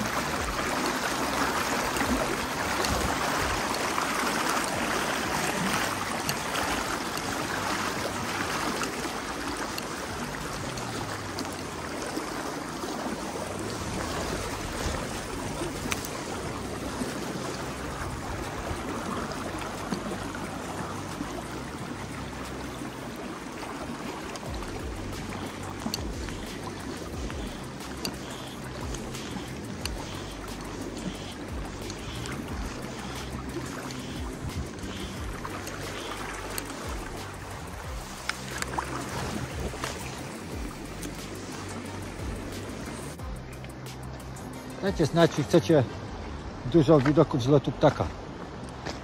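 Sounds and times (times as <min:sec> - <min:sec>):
river water flowing: 0:00.0 - 0:49.0.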